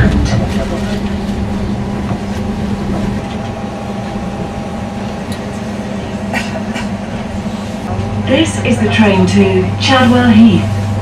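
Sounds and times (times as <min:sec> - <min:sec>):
even hum: 0:00.0 - 0:11.0
train interior rumble: 0:00.0 - 0:11.0.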